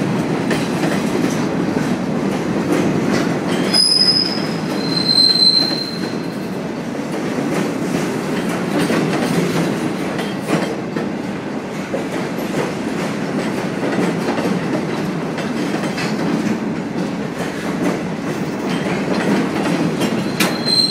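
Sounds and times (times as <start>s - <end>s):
train wheels rumbling on rail: 0.0s - 20.9s
wheels clacking over rail joints: 0.0s - 20.9s.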